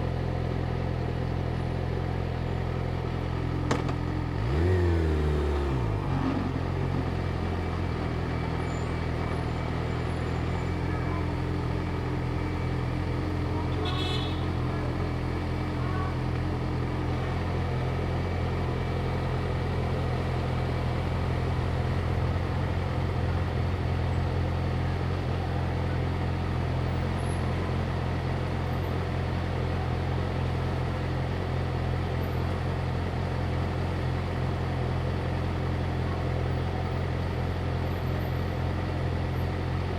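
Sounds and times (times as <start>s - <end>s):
motorcycle engine idling: 0.0s - 39.9s
street traffic: 0.0s - 39.9s.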